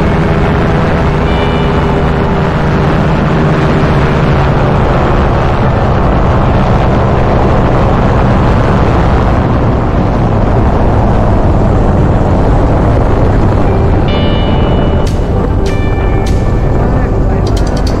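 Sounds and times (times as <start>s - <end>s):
paramotor engine and propeller drone: 0.0s - 18.0s.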